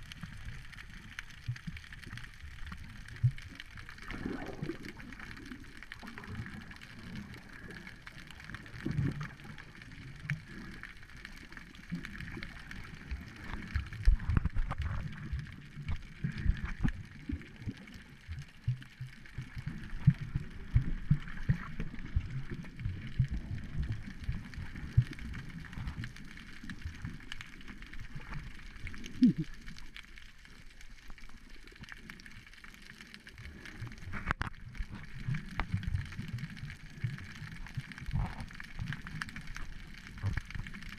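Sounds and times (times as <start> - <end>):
churning water underwater: 0.0 - 40.9.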